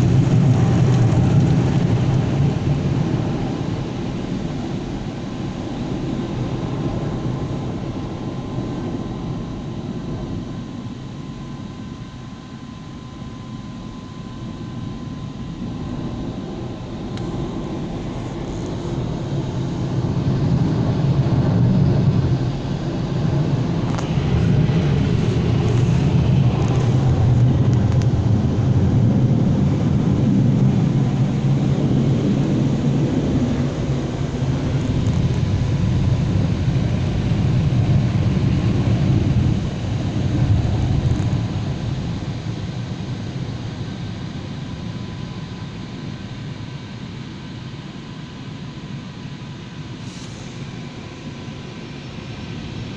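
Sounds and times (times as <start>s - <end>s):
car wash machinery running: 0.0s - 52.9s.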